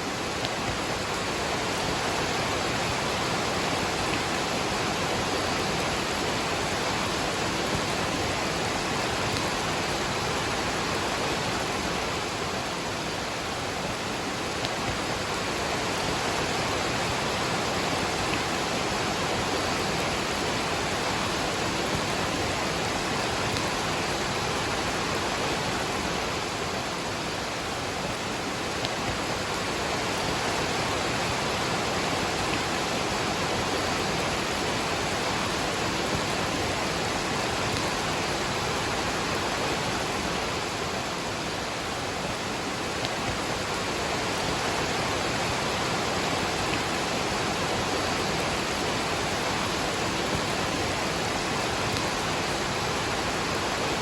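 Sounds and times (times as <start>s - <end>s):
rain falling: 0.0s - 54.0s
waterfall rushing: 0.0s - 54.0s.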